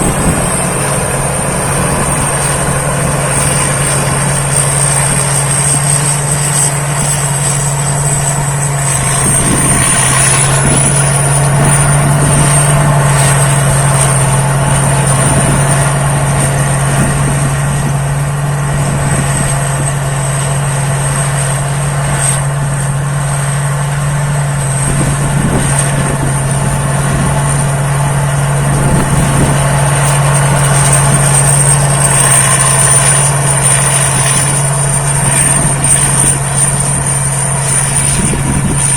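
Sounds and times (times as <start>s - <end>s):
combine harvester engine hum: 0.0s - 38.9s
high machine whine: 0.0s - 38.9s.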